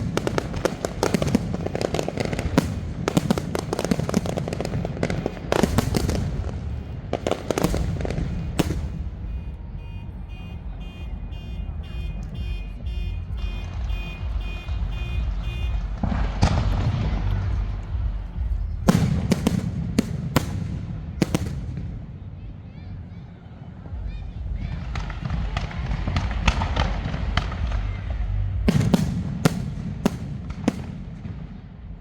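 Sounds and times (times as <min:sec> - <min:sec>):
fireworks cracks and booms: 0:00.0 - 0:22.2, 0:23.9 - 0:32.0
low rumble: 0:04.7 - 0:23.1, 0:23.7 - 0:32.0.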